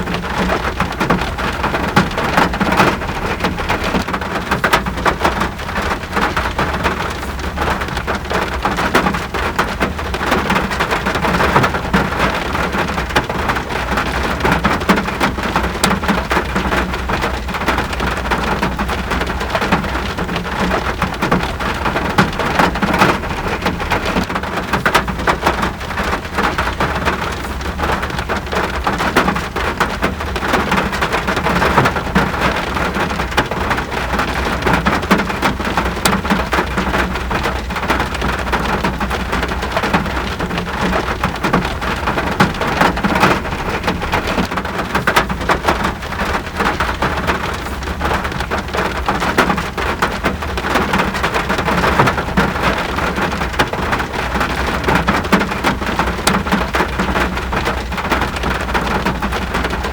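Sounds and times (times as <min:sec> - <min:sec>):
raindrops ticking: 0:00.0 - 0:59.9.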